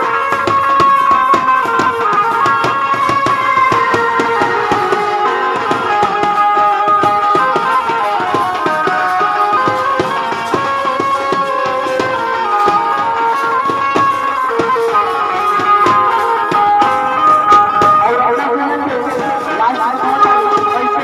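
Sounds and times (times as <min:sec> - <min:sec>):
side drums and bass drum: 0:00.0 - 0:21.0
wavering melody line: 0:00.0 - 0:21.0.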